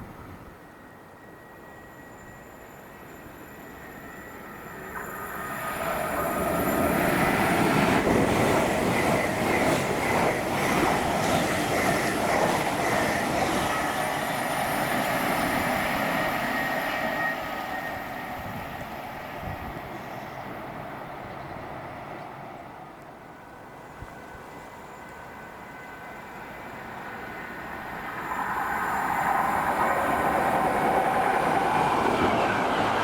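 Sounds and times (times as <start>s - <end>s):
train passing: 0.0s - 33.0s.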